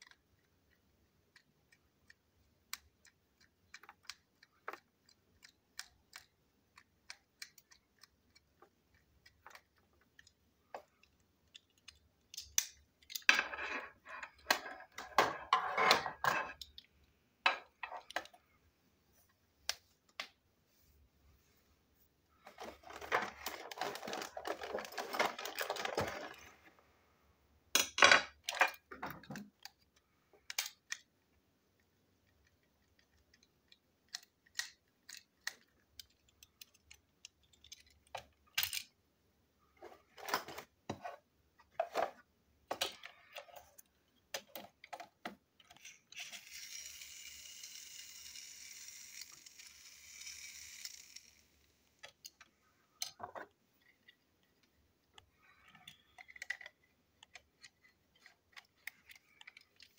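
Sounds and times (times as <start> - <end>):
plastic toy parts clicking: 0.0 - 18.4, 22.5 - 26.5, 27.8 - 31.2, 31.8 - 39.0, 42.7 - 59.9.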